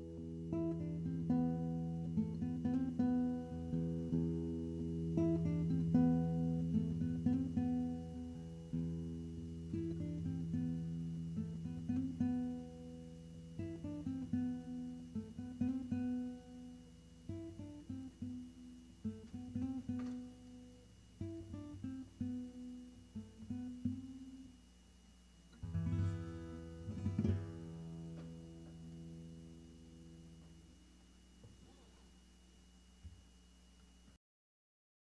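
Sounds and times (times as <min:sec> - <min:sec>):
acoustic guitar music: 0:00.0 - 0:24.7, 0:25.5 - 0:32.0.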